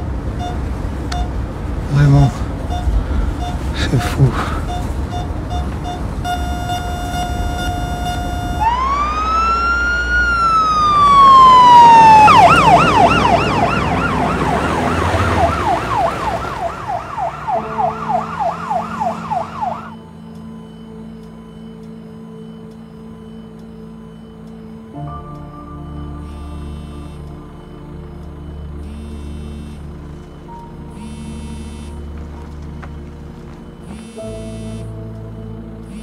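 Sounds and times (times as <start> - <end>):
low music notes: 0.0 - 36.0
electronic ambulance siren: 0.3 - 36.0.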